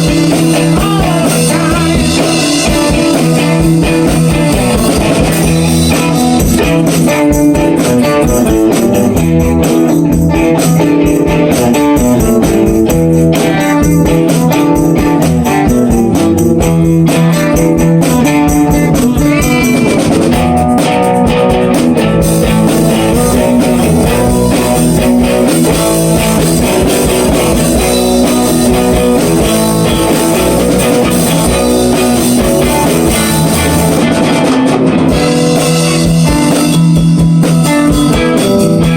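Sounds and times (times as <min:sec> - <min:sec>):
drum kit: 0:00.0 - 0:38.9
electric guitar riff: 0:00.0 - 0:38.9.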